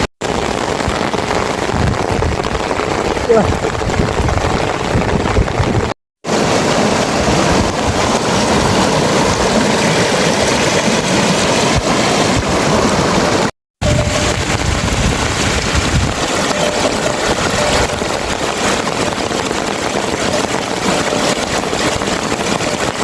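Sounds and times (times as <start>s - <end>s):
water rushing in heavy rain: 0.0s - 23.0s.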